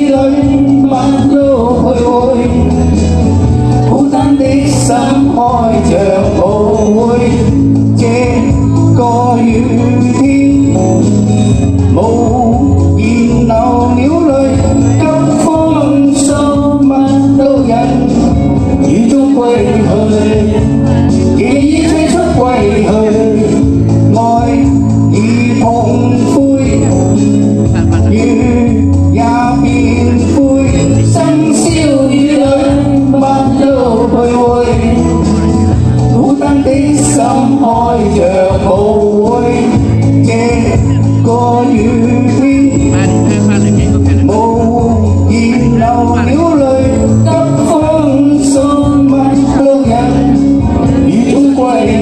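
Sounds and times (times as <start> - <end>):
male and female vocal duet: 0.0 - 3.1, 3.8 - 11.1, 11.9 - 52.0
music accompaniment: 0.0 - 52.0.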